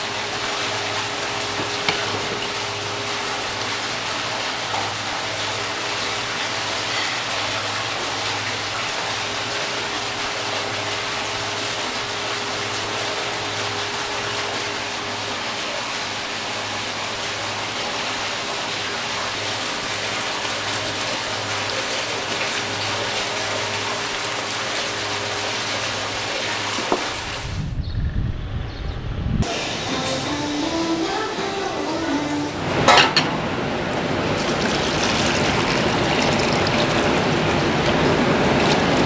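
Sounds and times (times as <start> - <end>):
running water rushing: 0.0 - 27.6, 29.4 - 39.0.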